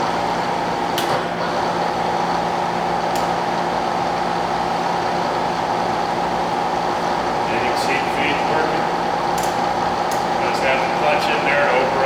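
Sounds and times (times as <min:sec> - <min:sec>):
milling machine hum and gear whine: 0:00.0 - 0:12.0.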